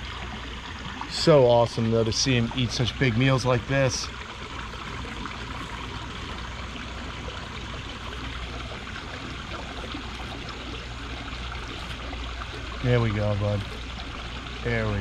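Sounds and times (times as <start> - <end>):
low hum: 0.0 - 15.0
running water trickling: 0.0 - 15.0.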